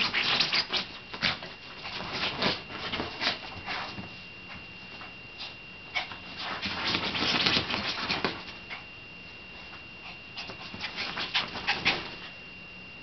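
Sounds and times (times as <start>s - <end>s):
puppy paws scratching on bedding: 0.0s - 12.5s.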